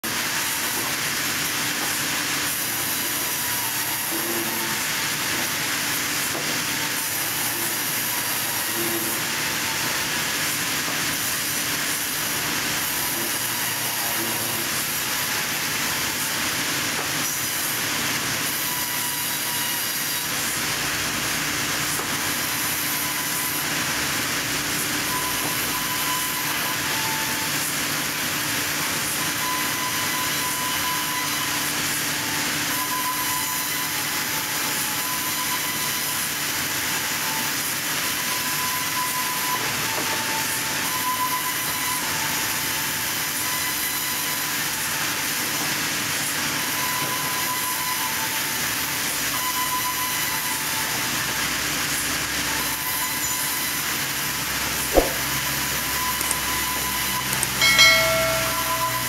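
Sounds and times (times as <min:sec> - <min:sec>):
sawmill saw running: 0:00.0 - 0:59.0.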